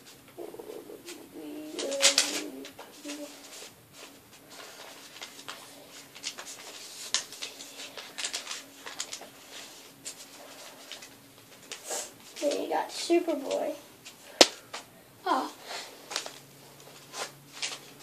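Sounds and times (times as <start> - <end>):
faint steady hum: 0.0 - 18.0
paper folding and crinkling: 0.3 - 14.2, 15.8 - 18.0.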